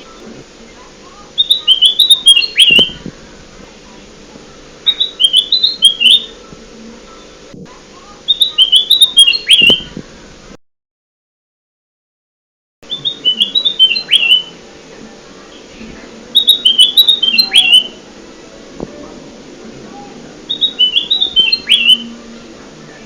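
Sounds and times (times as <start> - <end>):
bulbul song: 0.0 - 10.0, 12.8 - 23.0
faint steady hum: 0.0 - 10.6, 12.8 - 23.0.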